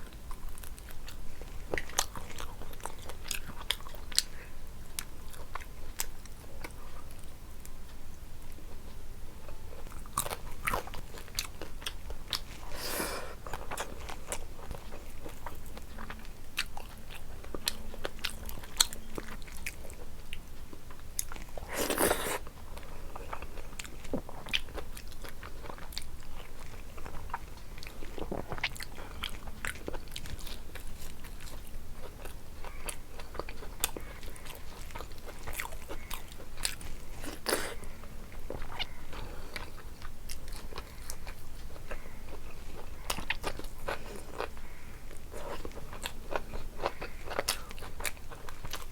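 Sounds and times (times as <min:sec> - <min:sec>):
chewing with crunches: 0:00.0 - 0:48.9.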